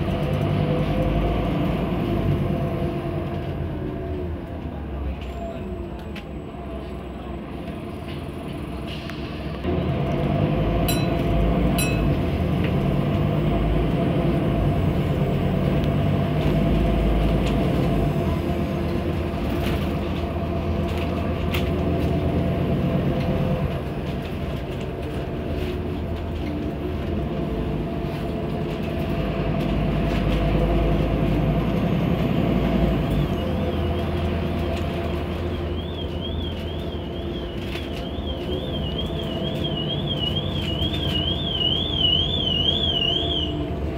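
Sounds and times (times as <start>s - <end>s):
bus diesel engine drone: 0.0s - 43.9s
road rumble: 0.0s - 43.9s.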